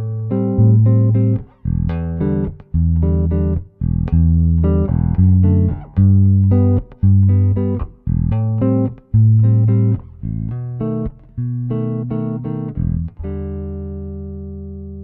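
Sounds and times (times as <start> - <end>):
electric bass plucked notes: 0.0 - 15.0.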